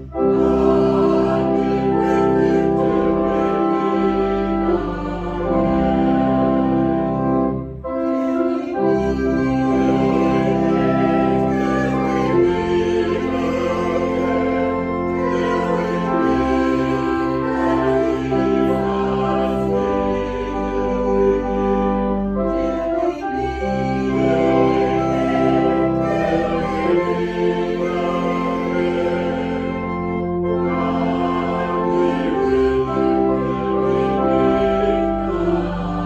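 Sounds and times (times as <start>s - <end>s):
organ chords: 0.0s - 36.0s.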